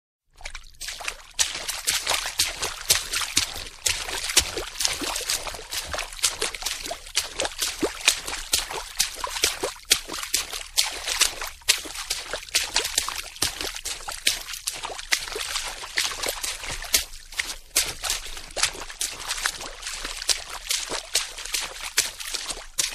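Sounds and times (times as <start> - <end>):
water splashing: 0.4 - 22.9.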